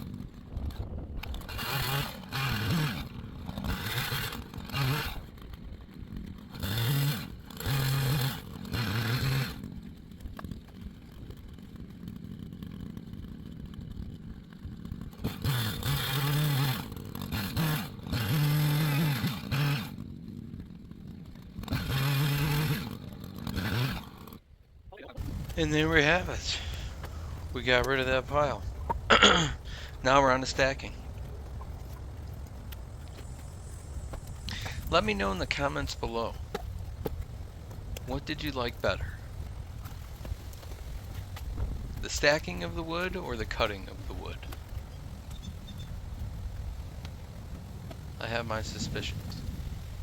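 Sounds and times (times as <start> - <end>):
chainsaw cutting wood: 0.0 - 24.6, 25.2 - 50.0.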